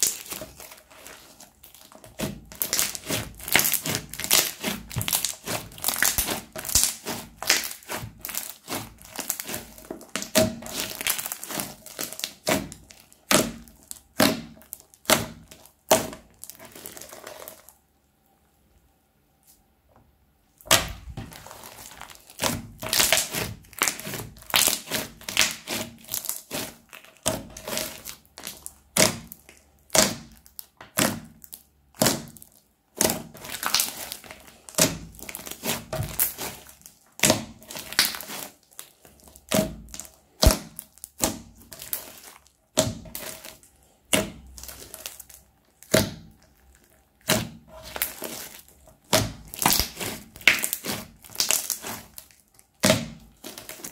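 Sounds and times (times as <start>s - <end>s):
crunchy slime crackling and squishing: 0.0s - 18.4s, 20.5s - 53.9s.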